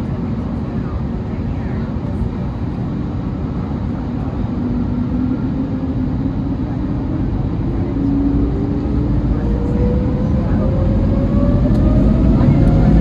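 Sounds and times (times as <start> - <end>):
airplane cabin engine rumble: 0.0 - 13.0
low hum: 2.1 - 13.0.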